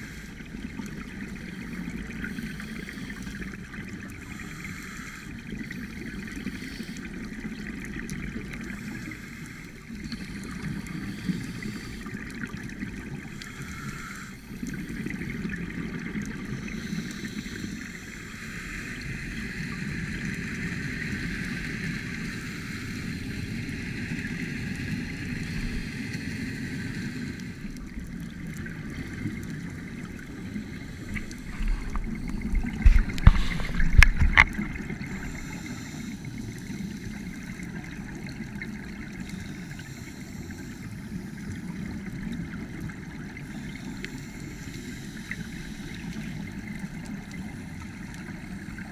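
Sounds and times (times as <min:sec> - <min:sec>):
muffled underwater hiss and gurgling: 0:00.0 - 0:48.9.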